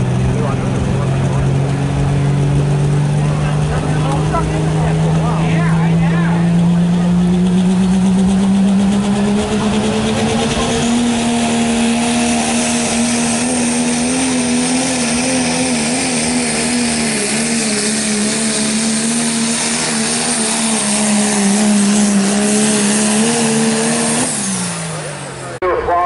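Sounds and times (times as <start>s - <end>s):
truck engine at high revs: 0.0s - 26.0s.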